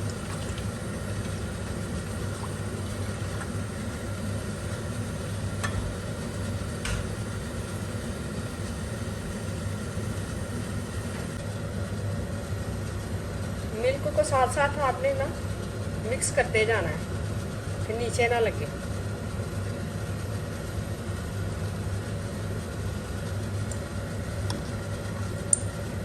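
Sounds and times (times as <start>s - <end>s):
low kitchen hum and rumble: 0.0s - 26.0s.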